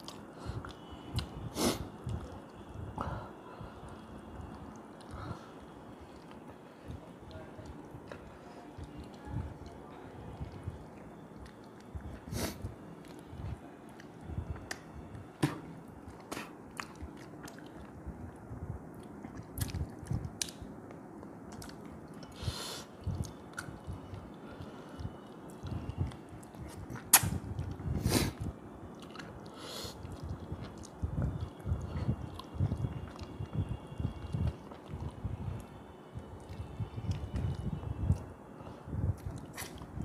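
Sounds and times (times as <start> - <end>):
man chewing with wet mouth sounds: 0.0 - 40.0.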